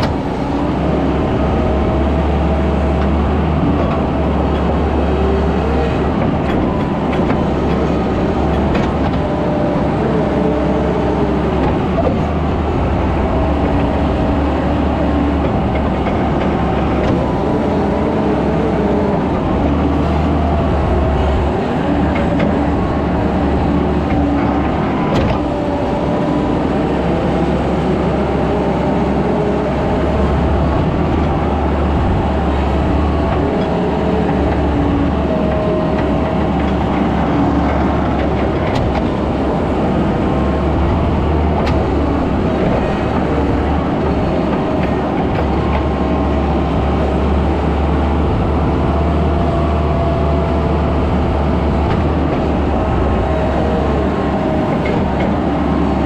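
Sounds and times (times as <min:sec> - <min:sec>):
loader engine droning: 0:00.0 - 0:56.0.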